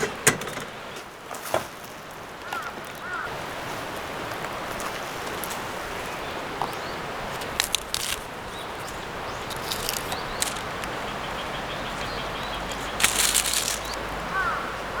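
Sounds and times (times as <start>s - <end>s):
river rushing: 1.1s - 15.0s.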